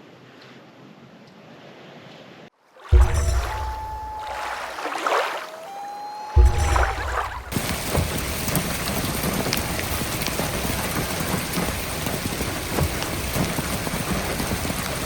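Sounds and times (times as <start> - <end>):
loud raindrops hitting: 2.8 - 15.0
heavy rain falling: 2.9 - 15.0.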